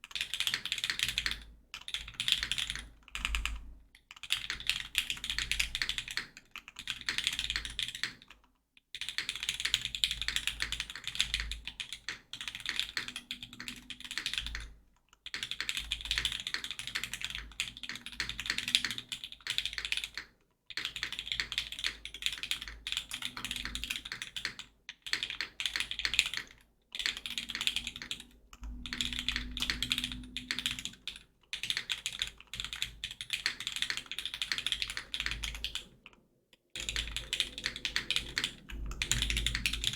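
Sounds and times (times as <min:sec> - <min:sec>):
fast typing on mechanical keyboard: 0:00.0 - 0:36.2, 0:36.8 - 0:39.9.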